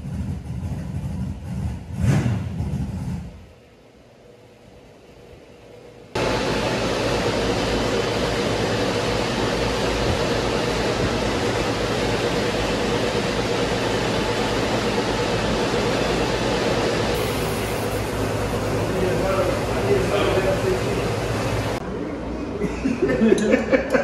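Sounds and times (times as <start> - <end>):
fan air rushing: 0.0 - 24.0
faint motor hum: 2.8 - 24.0.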